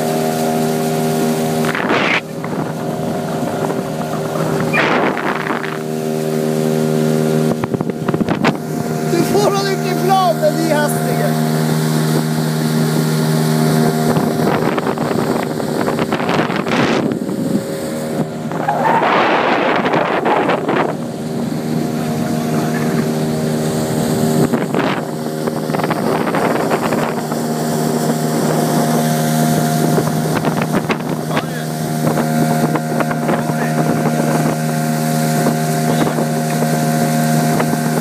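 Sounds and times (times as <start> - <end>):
outboard motor running: 0.0 - 38.0
wind buffeting microphone: 0.0 - 38.0.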